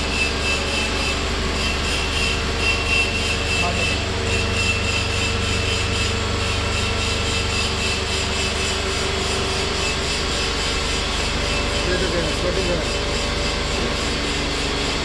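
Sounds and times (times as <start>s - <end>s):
high machine whine: 0.0s - 15.0s
industrial machine humming: 0.0s - 15.0s.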